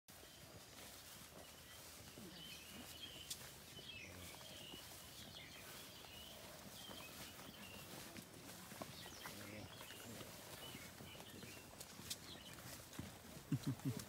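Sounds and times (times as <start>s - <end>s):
bird chirps: 0.1s - 8.2s, 8.8s - 12.8s.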